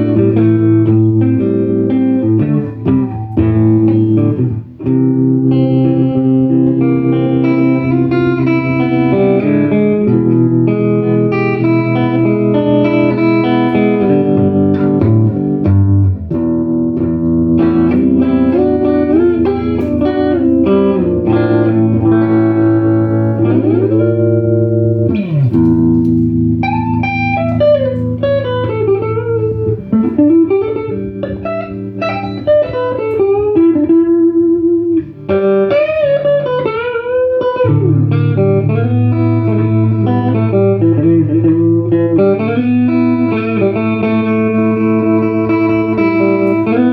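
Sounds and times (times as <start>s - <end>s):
electric guitar through tube amp: 0.0s - 46.9s.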